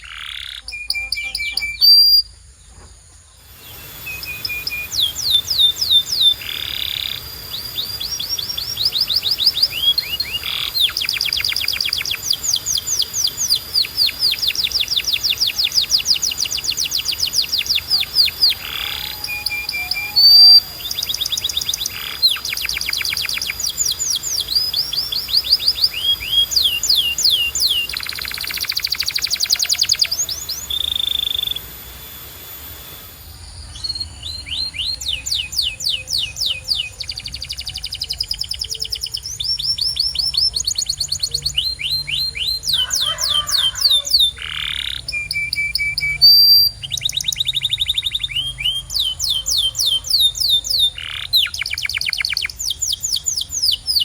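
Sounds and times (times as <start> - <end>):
canary singing trills: 0.0 - 2.4, 3.4 - 54.0.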